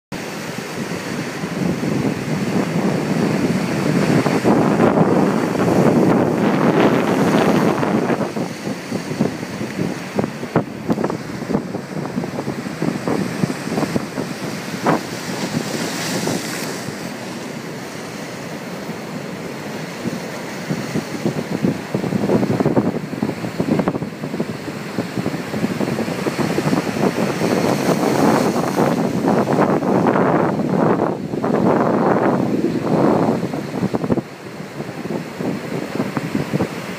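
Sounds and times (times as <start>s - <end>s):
surf waves breaking: 0.1s - 36.9s
wind gusting on microphone: 0.1s - 36.9s.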